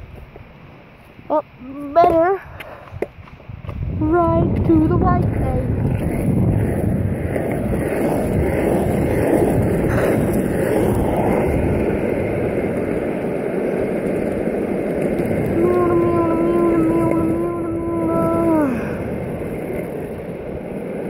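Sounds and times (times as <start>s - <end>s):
skateboard wheels rolling on asphalt: 0.0s - 21.0s
wind on microphone: 1.3s - 21.0s.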